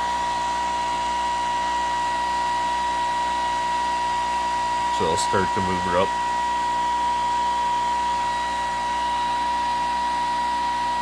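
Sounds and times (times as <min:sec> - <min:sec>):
motor whining and whirring: 0:00.0 - 0:11.0.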